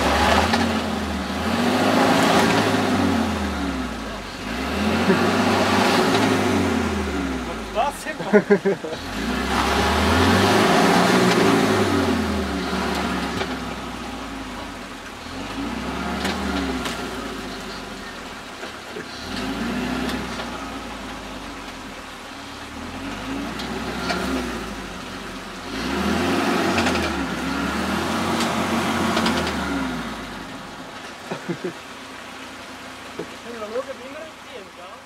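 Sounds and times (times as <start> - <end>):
car engine revving under load: 0.0 - 34.8.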